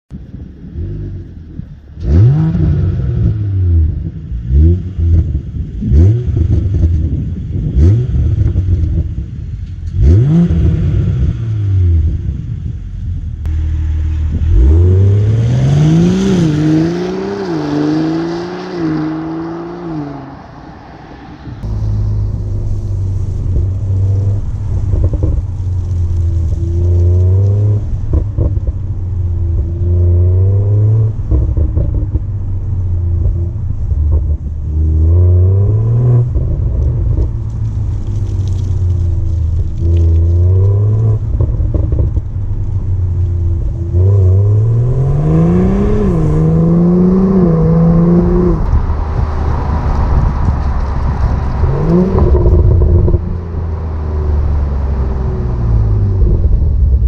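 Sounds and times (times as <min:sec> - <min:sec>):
car engine revving: 0:00.8 - 0:57.0.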